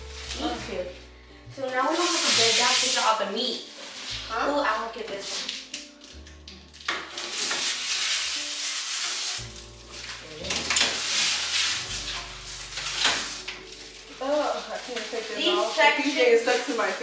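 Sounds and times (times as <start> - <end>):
background music: 0.0 - 17.0
plastic film crinkling: 0.0 - 17.0.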